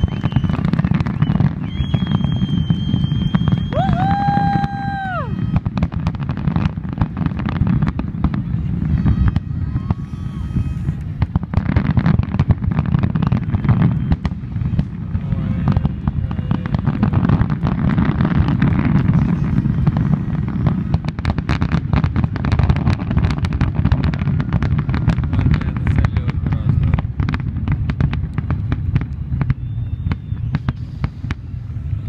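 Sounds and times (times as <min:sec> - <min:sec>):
fireworks booming and crackling: 0:00.0 - 0:32.0.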